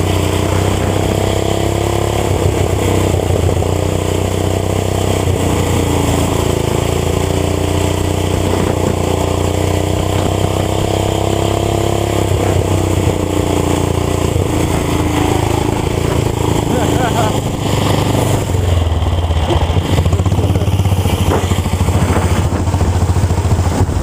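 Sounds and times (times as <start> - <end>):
small gas engine running hard: 0.0 - 24.0.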